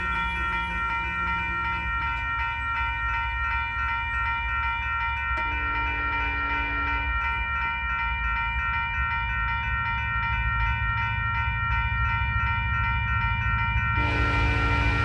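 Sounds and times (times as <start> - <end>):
diesel locomotives rumbling: 0.0 - 15.0
railroad crossing bell ringing: 0.0 - 15.0.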